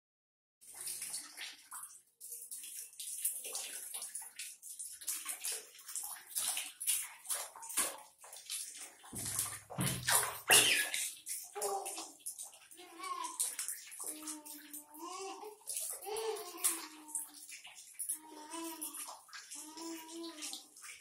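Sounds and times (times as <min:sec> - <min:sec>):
baby splashing water in basin: 0:00.6 - 0:21.0.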